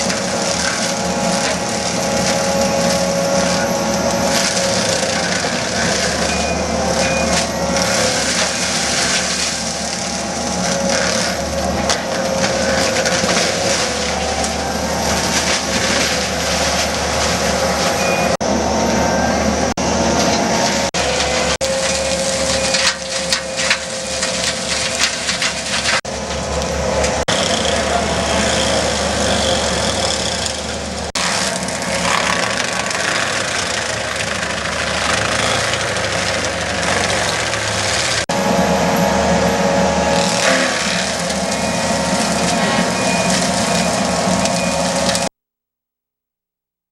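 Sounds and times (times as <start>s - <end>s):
wood cracking and splintering: 0.0s - 18.0s, 20.6s - 38.3s, 40.0s - 45.3s
mulcher shredding brush and wood: 0.0s - 45.4s
skid steer loader running hard: 0.0s - 45.4s.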